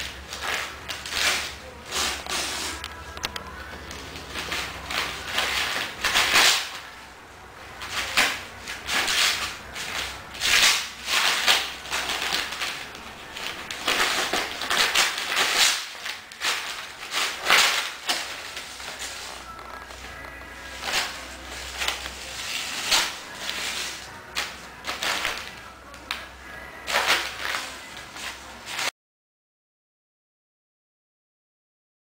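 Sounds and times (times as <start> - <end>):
paper crackling and ripping: 0.0 - 7.0, 7.8 - 28.9.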